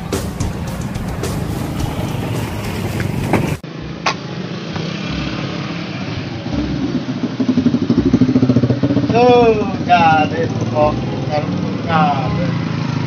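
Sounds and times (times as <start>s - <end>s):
motorcycles passing: 0.0s - 13.0s.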